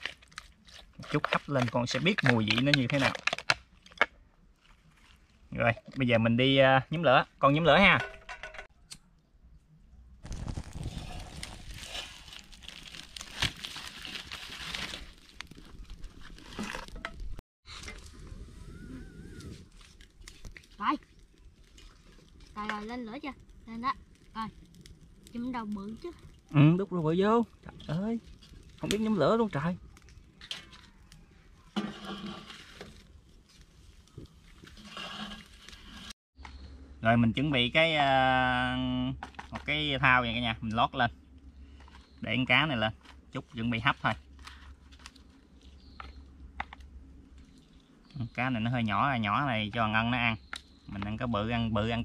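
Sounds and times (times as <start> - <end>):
wood fire crackling: 0.0 - 8.7, 10.2 - 36.2, 37.2 - 52.0.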